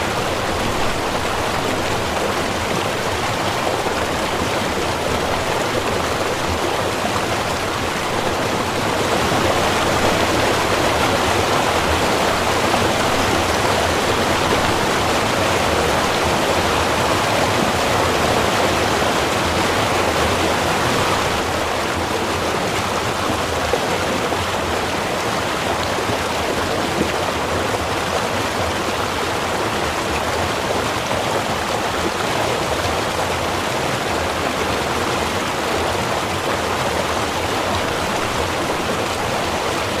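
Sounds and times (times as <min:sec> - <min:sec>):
river flowing: 0:00.0 - 0:40.0.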